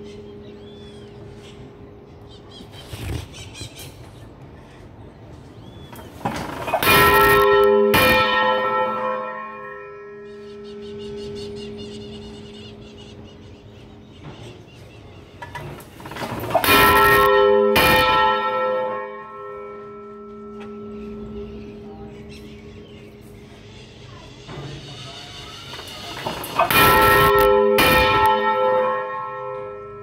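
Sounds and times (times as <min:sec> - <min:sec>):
large church bell tolling: 0:00.0 - 0:02.1, 0:06.0 - 0:14.8, 0:15.4 - 0:24.4, 0:25.2 - 0:30.0.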